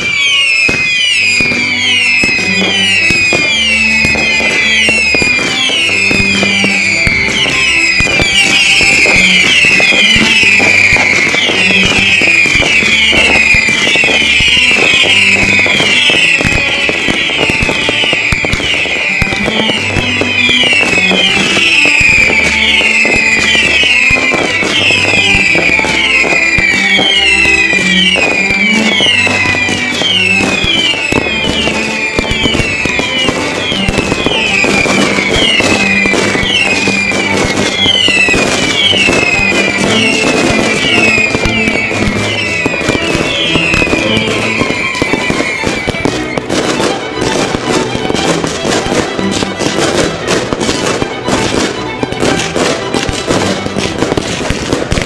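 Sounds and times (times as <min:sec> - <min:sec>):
fireworks crackling and popping: 0:00.0 - 0:55.0
whistling firework shots: 0:00.0 - 0:55.0.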